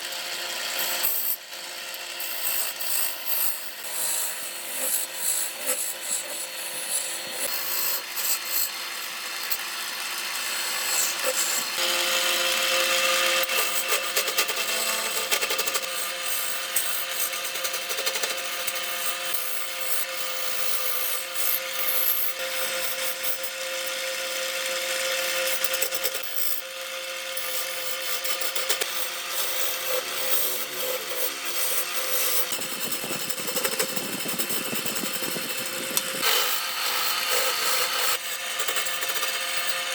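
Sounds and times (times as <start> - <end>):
power tool motor: 0.0 - 39.9
scraping of wood cut: 0.0 - 39.9.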